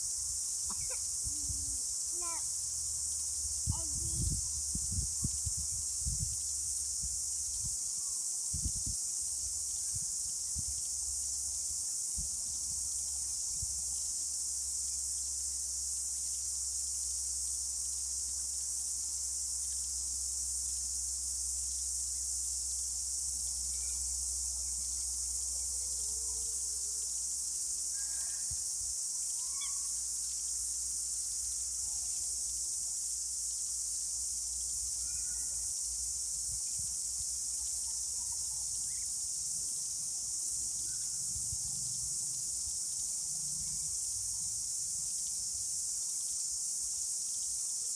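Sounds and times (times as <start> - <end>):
cicadas shrilling: 0.0 - 47.9.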